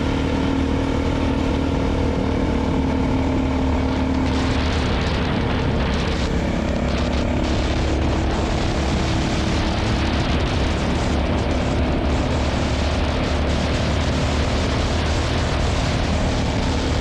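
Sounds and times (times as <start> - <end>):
motorcycle engine cruising: 0.0 - 17.0
wind noise: 0.0 - 17.0.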